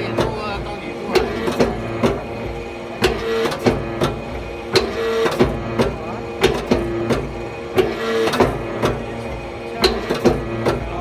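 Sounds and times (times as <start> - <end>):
forging press hum: 0.0 - 11.0.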